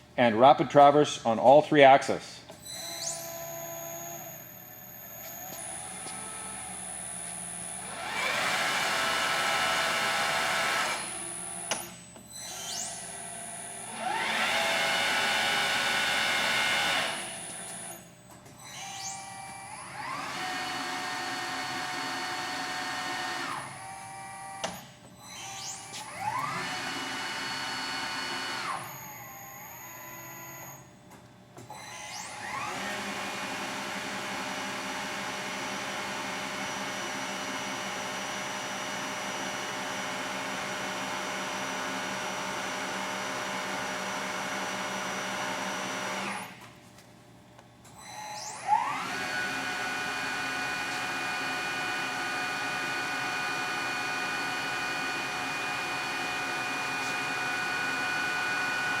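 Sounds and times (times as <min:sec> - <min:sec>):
milling machine motor whine: 0:02.7 - 0:30.8, 0:31.8 - 0:46.6, 0:48.0 - 0:59.0.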